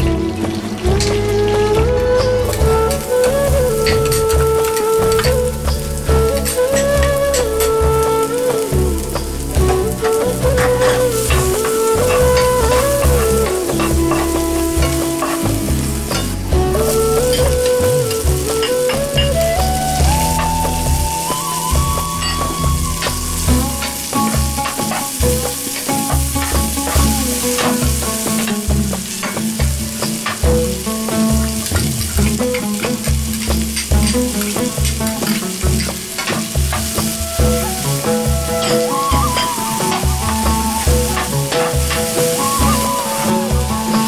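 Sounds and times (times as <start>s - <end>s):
onions sizzling in a frying pan: 0.0s - 44.0s.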